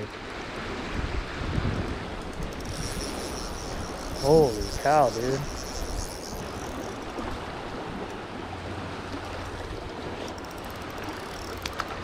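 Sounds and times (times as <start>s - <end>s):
river flowing over riffle: 0.0s - 12.0s.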